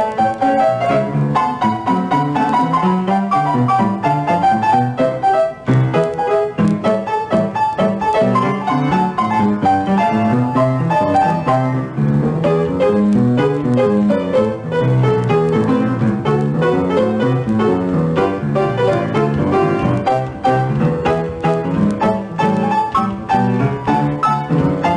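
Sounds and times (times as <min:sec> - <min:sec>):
piano playing quick run: 0:00.0 - 0:24.9.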